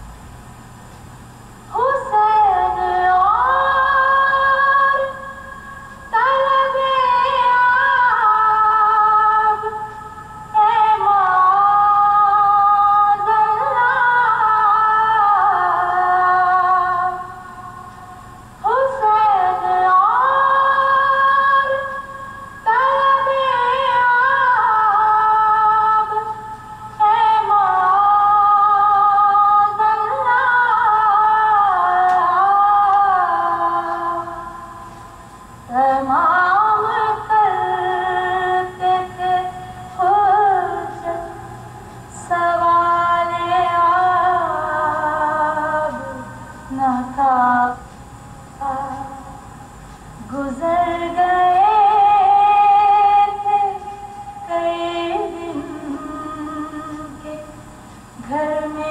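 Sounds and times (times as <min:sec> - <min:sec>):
woman singing unaccompanied: 0:01.7 - 0:47.9, 0:48.5 - 0:58.9.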